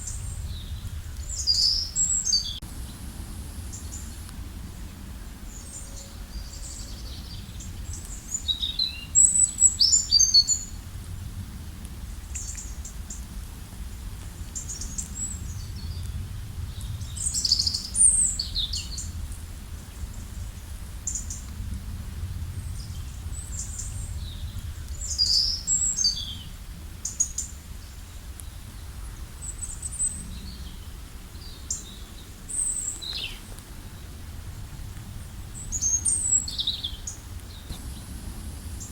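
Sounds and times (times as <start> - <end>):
songbirds chirping and trilling: 0.0 - 10.8, 14.0 - 21.6, 22.3 - 38.9.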